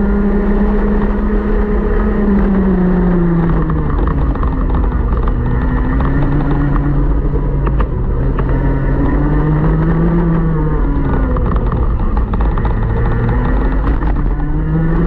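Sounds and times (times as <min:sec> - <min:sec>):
kart engine running hard: 0:00.0 - 0:15.0.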